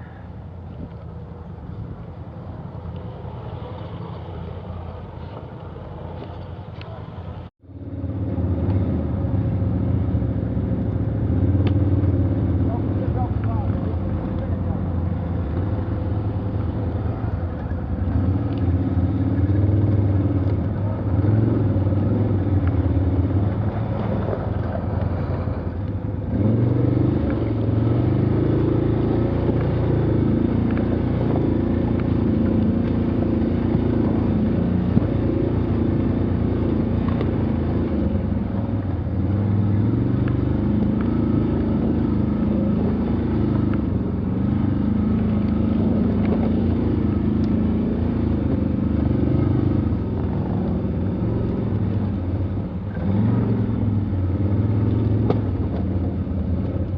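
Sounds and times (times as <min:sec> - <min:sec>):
off-road vehicle engine labouring: 0:00.0 - 0:56.9.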